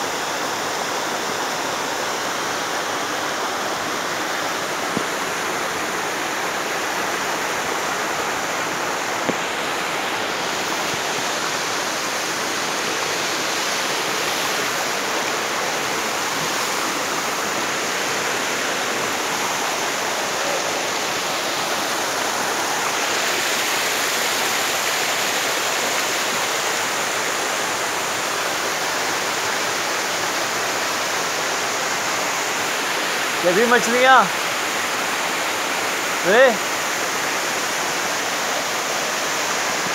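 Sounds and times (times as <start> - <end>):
small waterfall rushing: 0.0 - 39.9
stream running over rocks: 0.0 - 39.9.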